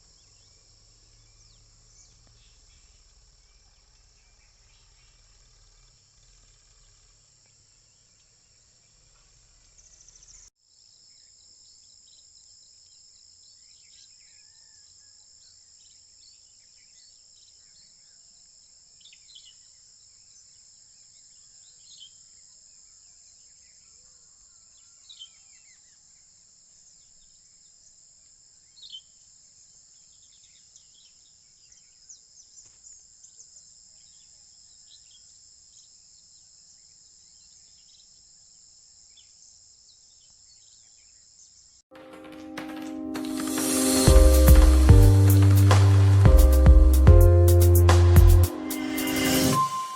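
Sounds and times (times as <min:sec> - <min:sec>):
insects droning: 0:00.0 - 0:41.8.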